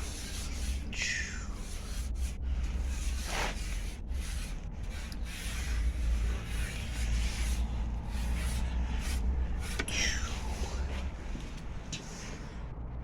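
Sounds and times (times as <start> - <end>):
rubbing on microphone: 0.0 - 12.6
low rumble: 0.0 - 13.0.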